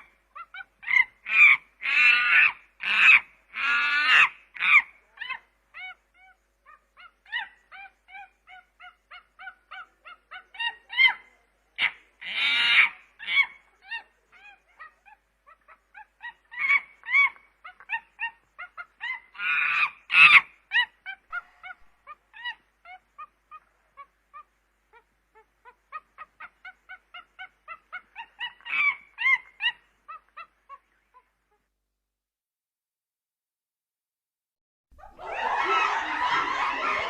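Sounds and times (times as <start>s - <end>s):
chimpanzee hooting: 0.0s - 31.6s
chimpanzee harsh calls: 0.0s - 31.7s.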